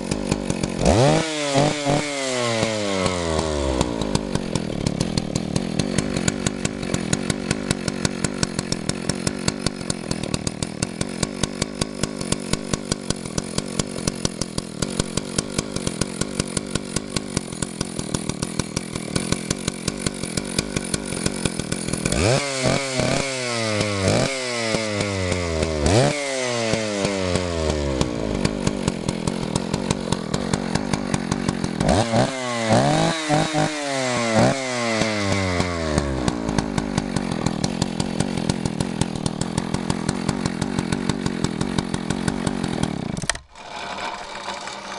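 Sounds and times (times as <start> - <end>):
chainsaw idling: 0.0 - 44.9
chainsaw revving high: 0.0 - 44.9.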